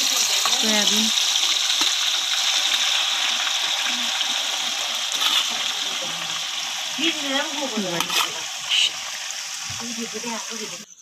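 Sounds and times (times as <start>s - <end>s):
hot oil sizzling in wok: 0.0s - 11.0s.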